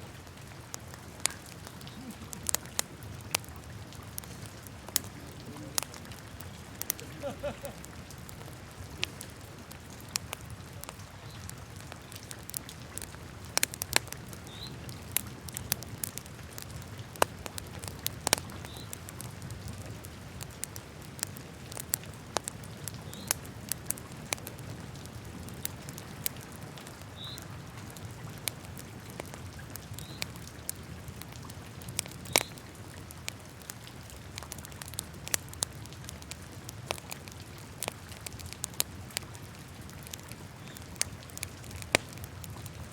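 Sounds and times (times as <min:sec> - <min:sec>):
fire low rumble: 0:00.0 - 0:42.9
fire pops and snaps: 0:00.1 - 0:42.9.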